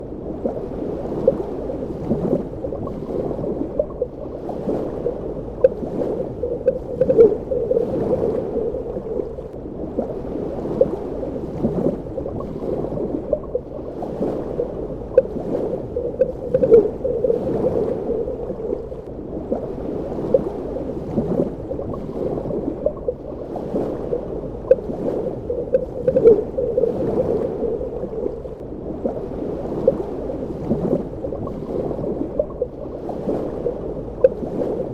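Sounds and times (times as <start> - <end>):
bubbling and gurgling: 0.0 - 34.9
muffled underwater churning: 0.0 - 34.9.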